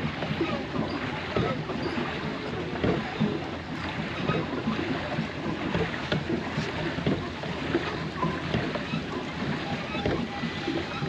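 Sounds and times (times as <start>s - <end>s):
paddlewheel splashing water: 0.0s - 11.0s.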